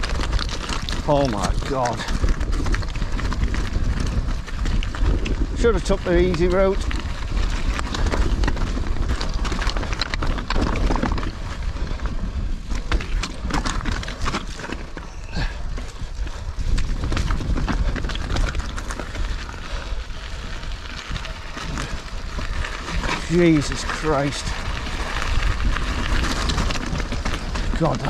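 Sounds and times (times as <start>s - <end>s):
mountain bike rattling over rocks: 0.0s - 28.0s
wind on microphone: 0.0s - 28.0s.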